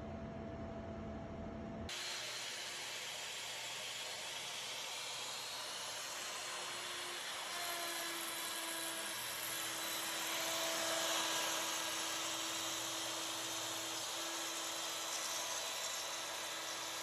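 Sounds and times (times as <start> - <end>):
router spindle whine: 1.9 - 17.0.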